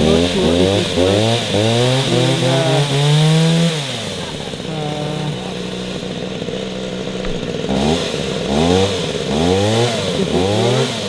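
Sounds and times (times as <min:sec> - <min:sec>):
chainsaw engine idling and revving: 0:00.0 - 0:11.0.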